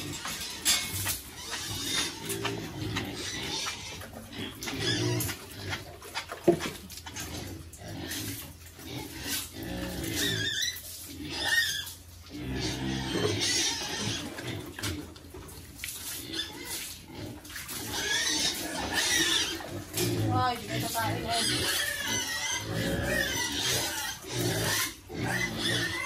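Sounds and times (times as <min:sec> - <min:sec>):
pigs grunting: 0:00.0 - 0:26.0.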